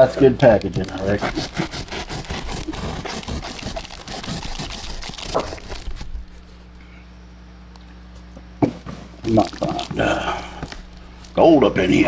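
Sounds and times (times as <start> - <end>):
packaging crinkling and rustling: 0.0 - 6.8, 7.8 - 12.0
low steady hum: 0.0 - 12.0.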